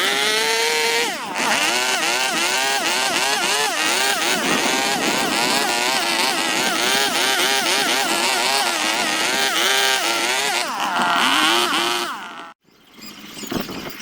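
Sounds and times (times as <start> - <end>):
power carving tool whining: 0.0 - 12.6.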